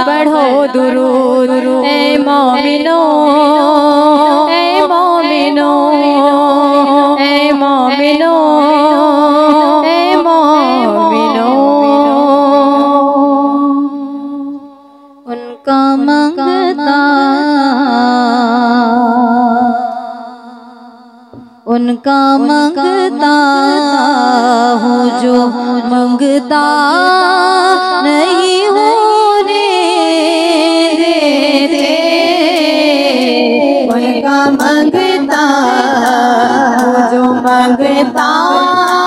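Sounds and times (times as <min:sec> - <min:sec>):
women singing: 0:00.0 - 0:14.6, 0:15.2 - 0:20.2, 0:21.3 - 0:39.0.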